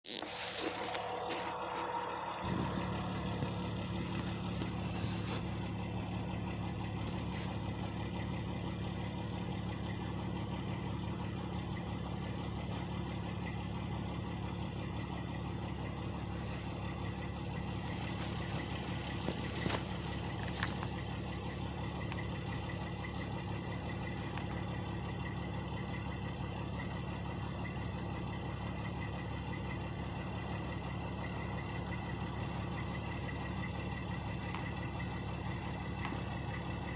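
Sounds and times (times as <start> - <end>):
truck engines idling: 0.1 - 36.9.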